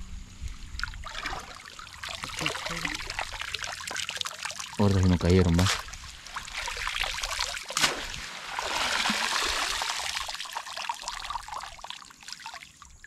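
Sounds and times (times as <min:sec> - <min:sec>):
sharp splash: 0:00.8 - 0:12.7
water running off a net: 0:01.0 - 0:12.7.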